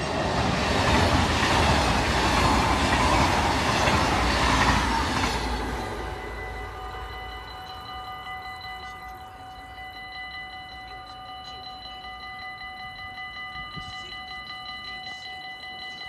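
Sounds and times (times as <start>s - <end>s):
level crossing warning bells: 0.0s - 16.0s.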